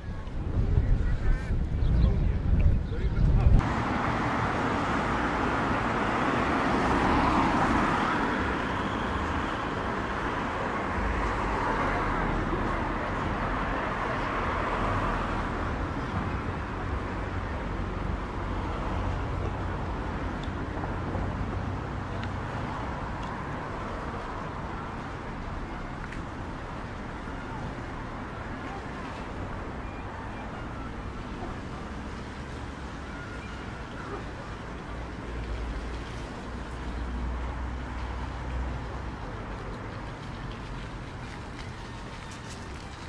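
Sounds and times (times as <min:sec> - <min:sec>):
cars driving along a street: 0:00.0 - 0:43.0.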